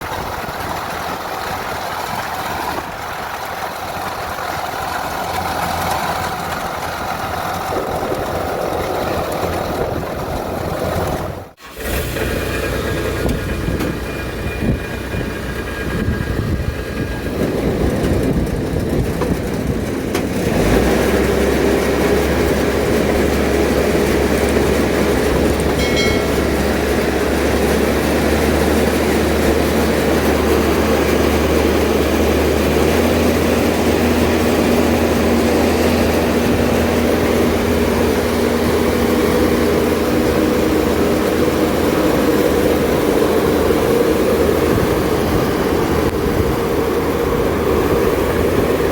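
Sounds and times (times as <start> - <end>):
combine harvester drone: 0.0 - 48.9.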